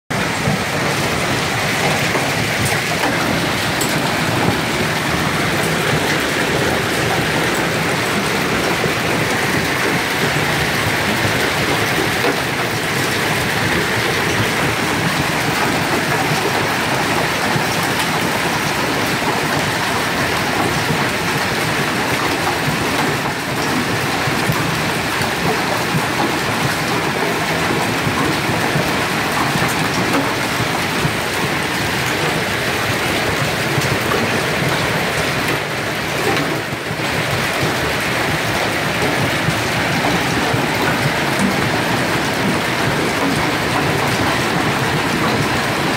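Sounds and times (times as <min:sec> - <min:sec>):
hail pelting cars: 0:00.1 - 0:45.9.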